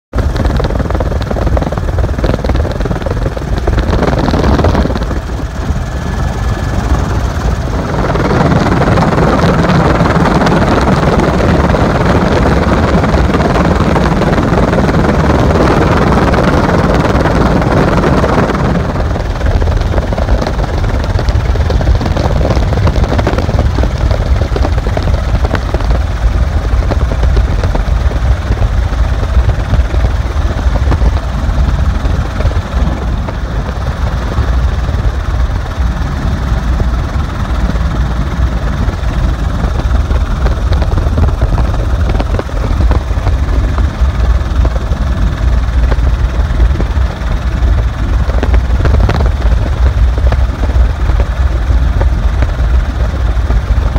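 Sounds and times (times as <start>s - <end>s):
helicopter rotor and engine: 0.1s - 53.9s
wind rush on microphone: 0.1s - 53.9s.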